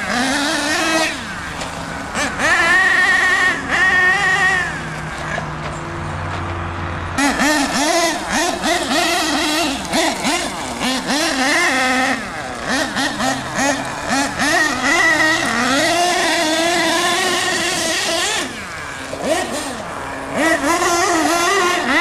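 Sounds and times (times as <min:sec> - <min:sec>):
rc truck engine revving: 0:00.0 - 0:22.0.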